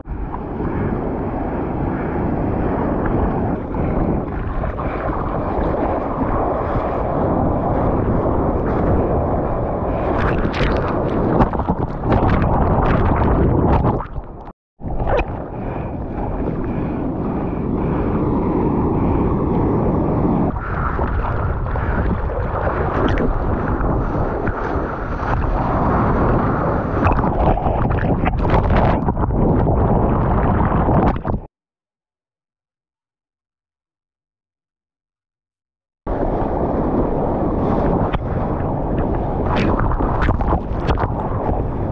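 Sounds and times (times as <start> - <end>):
wind buffeting microphone: 0.0 - 31.5, 36.1 - 41.9
sea water rushing: 0.1 - 31.5, 36.1 - 41.9.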